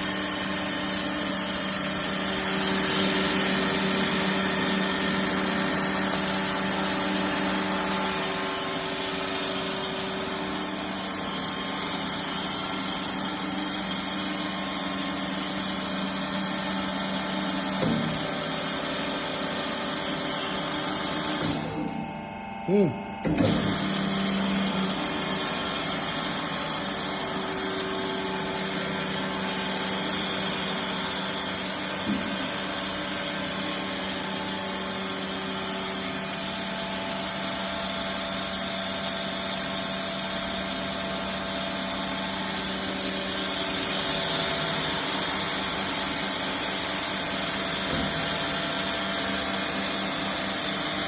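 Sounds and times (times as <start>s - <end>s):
drilling machine humming: 0.0s - 51.0s.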